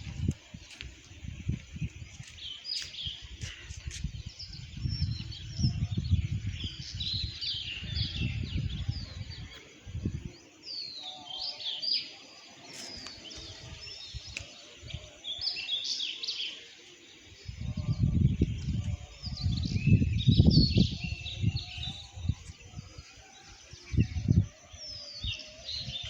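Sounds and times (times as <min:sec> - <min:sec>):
sparrows chirping: 0:01.5 - 0:26.0.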